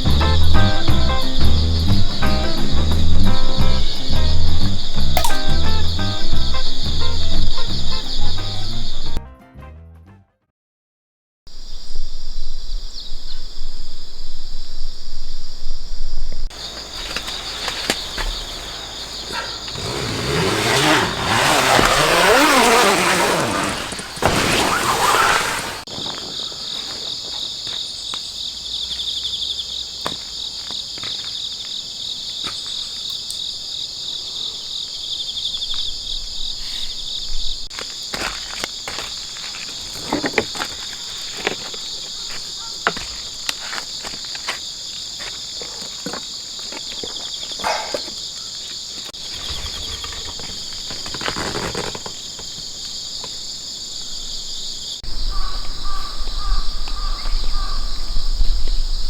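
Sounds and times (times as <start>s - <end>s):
insects chorus with pulsing trill: 0.0s - 9.2s, 11.5s - 59.0s.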